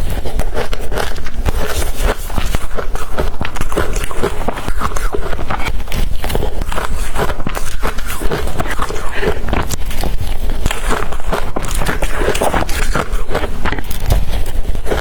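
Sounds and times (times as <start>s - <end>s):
crushed ice being chewed: 0.0s - 15.0s.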